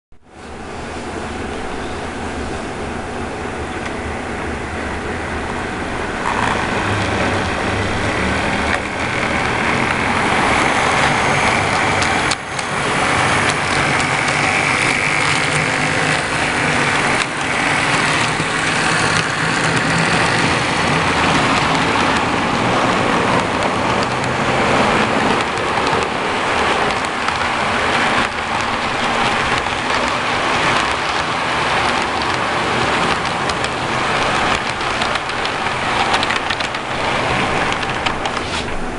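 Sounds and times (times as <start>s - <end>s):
model train rattling on track: 6.0s - 38.9s.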